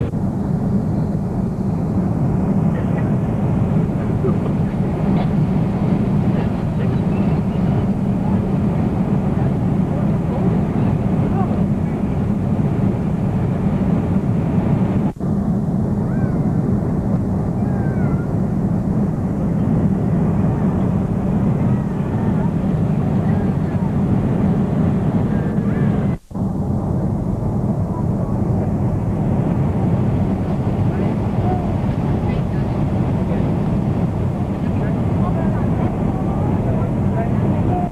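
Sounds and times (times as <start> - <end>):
airliner cabin engine roar: 0.0 - 37.9.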